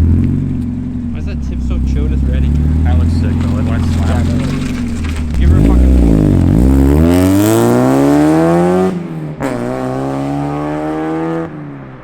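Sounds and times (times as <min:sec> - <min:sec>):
car engine revving through loud exhaust: 0:00.0 - 0:11.6.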